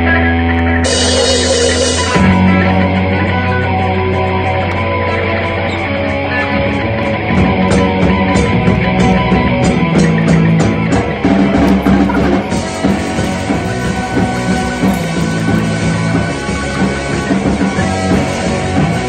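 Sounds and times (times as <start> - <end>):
rock band playing: 0.0 - 19.0
drum kit steady beat: 0.8 - 4.8, 6.7 - 19.0.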